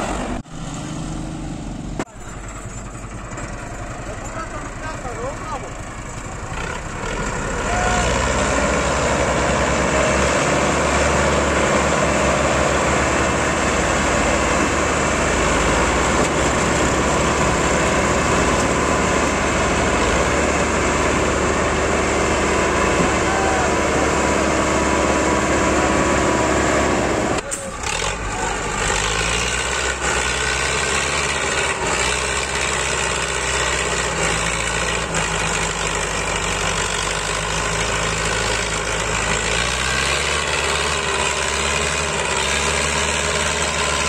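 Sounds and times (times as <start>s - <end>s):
tractor diesel engine straining: 0.0s - 44.0s.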